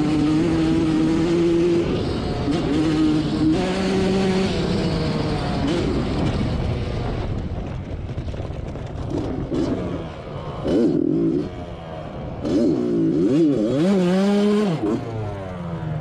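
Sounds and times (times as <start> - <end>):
two-stroke quad engine: 0.0 - 16.0.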